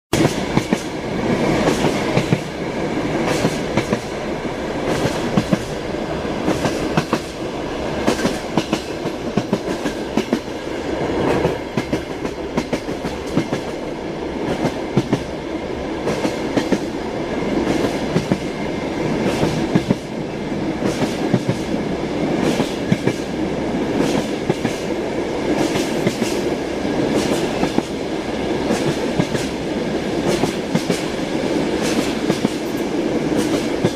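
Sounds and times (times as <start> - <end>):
train wheels clattering over rails: 0.1 - 15.4, 16.0 - 33.9.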